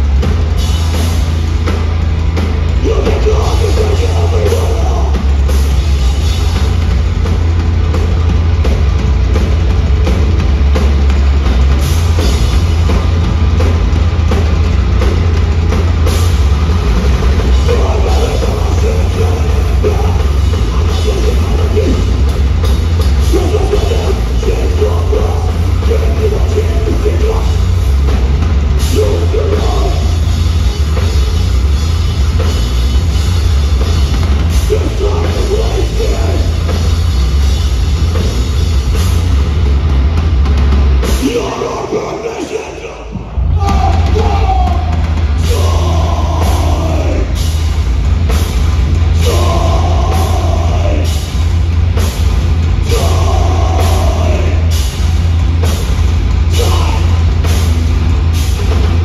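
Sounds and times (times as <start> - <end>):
drum kit: 0.0 - 59.0
metal band playing live: 0.0 - 59.0.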